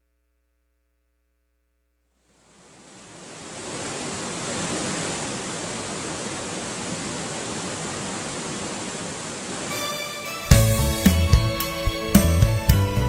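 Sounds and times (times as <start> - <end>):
steady rushing hiss: 2.4 - 13.0.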